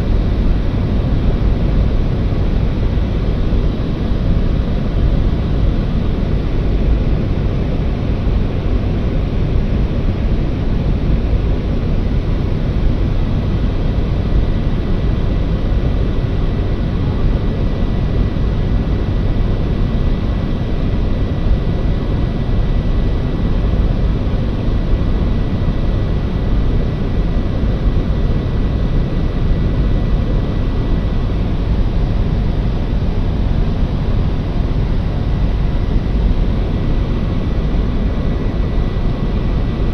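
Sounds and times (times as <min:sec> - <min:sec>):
propeller aircraft cabin drone: 0:00.0 - 0:39.9.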